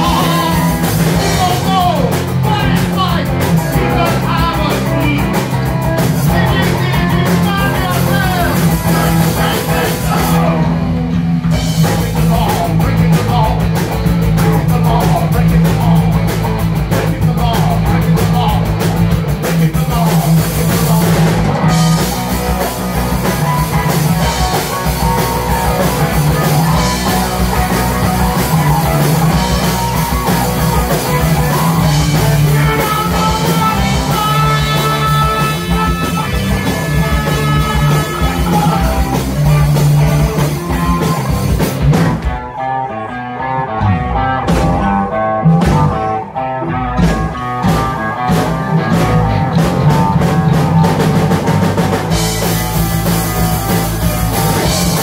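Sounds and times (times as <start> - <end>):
drum kit: 0.0 - 42.6, 43.8 - 55.0
bass guitar: 0.0 - 55.0
electric guitar: 0.0 - 55.0.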